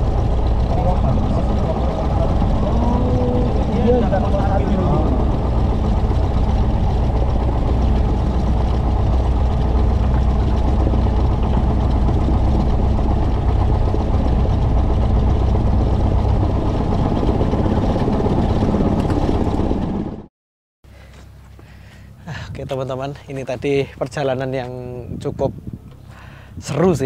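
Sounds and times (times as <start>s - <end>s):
propeller plane engine running: 0.0s - 20.3s, 20.9s - 27.0s.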